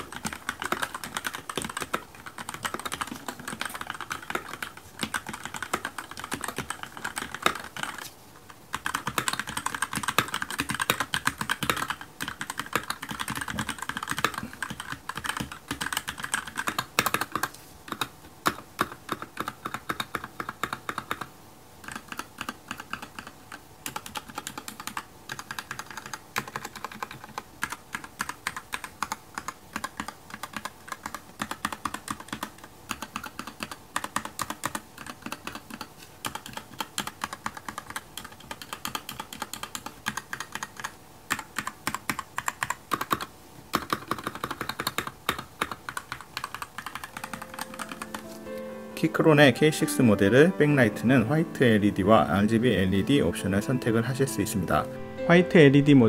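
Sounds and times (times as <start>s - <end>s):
mechanical keyboard typing: 0.0s - 8.1s, 8.7s - 54.8s.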